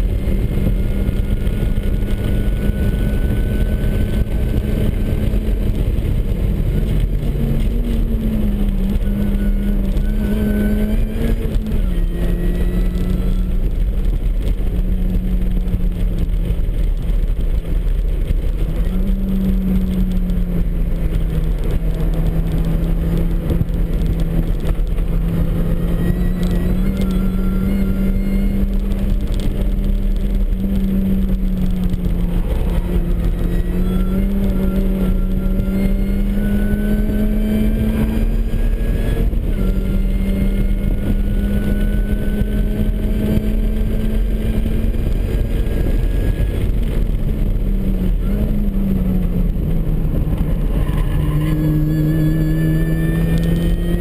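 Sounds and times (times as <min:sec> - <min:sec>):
car engine revving at high revs: 0:00.0 - 0:54.0
road and wind noise: 0:00.0 - 0:54.0.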